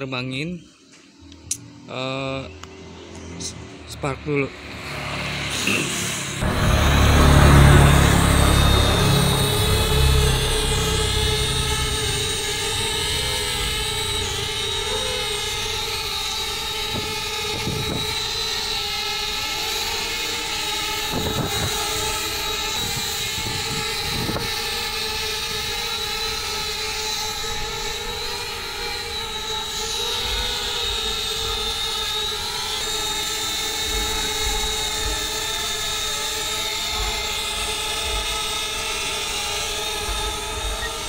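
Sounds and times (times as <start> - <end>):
drone propellers whining: 0.0 - 41.0.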